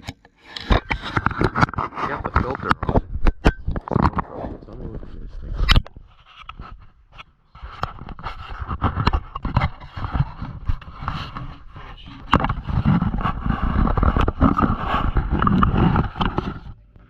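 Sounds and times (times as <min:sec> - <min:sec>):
muffled handling noise: 0:00.0 - 0:17.0.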